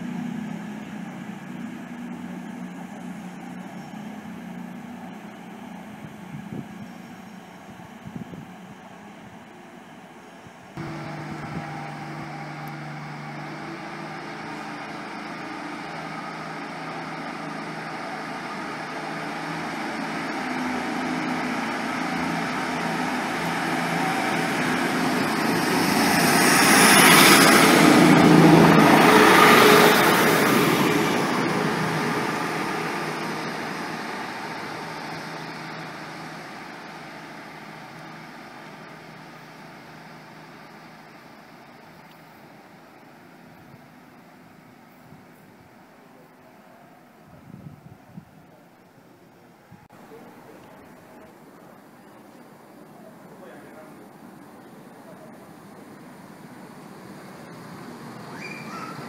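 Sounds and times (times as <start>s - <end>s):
diesel train engine: 0.0s - 59.0s.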